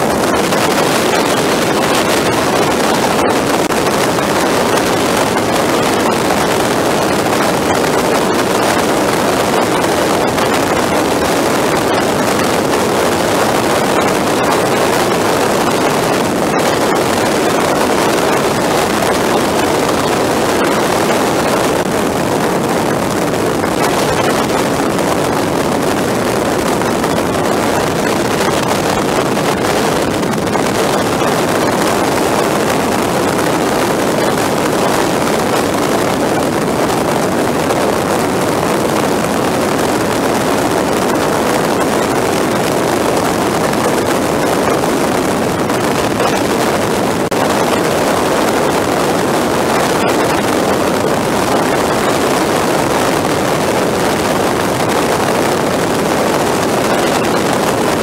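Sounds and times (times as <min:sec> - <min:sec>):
motorcycle engine and road noise: 0:00.0 - 0:58.0
wind buffeting microphone: 0:00.0 - 0:58.0.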